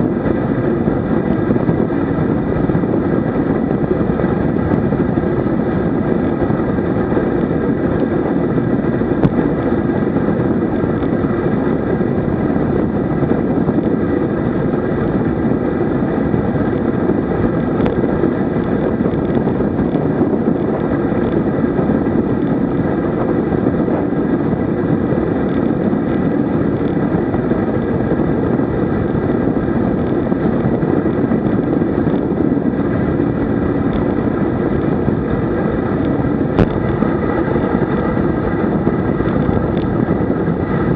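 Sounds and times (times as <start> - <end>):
tyres rumbling on asphalt: 0.0 - 40.9
wind over microphone: 0.0 - 40.9.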